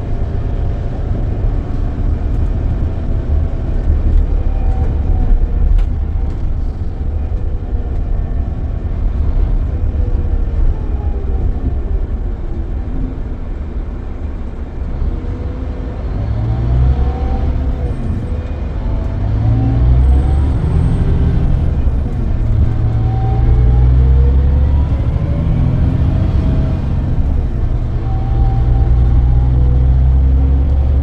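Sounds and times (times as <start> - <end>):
bus engine rumbling: 0.0 - 31.0.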